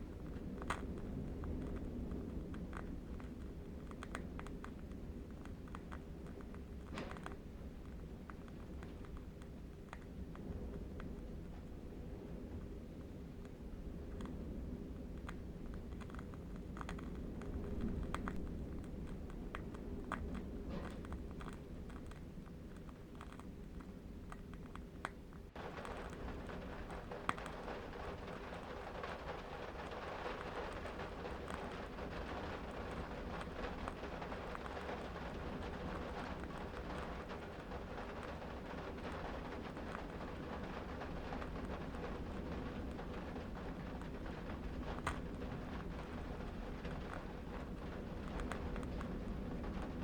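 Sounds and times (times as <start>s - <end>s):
candle wick crackling: 0.0s - 50.0s
distant wind rumble: 0.0s - 50.0s.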